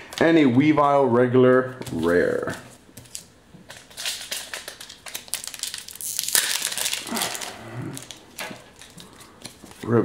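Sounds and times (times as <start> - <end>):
foil wrapper crinkling: 2.0 - 10.0.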